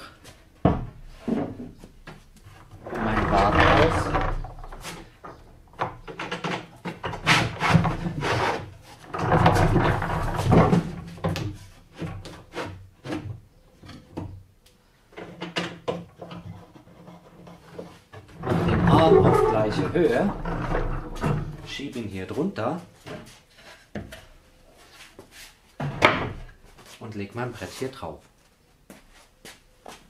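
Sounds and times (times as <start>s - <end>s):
wood scraping on wood: 1.0s - 13.3s, 16.1s - 28.0s.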